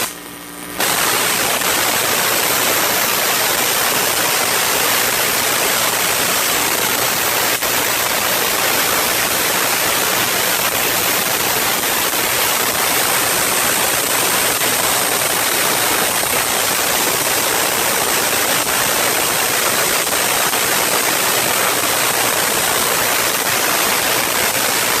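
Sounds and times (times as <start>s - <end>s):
steady storm noise hiss: 0.8s - 24.4s.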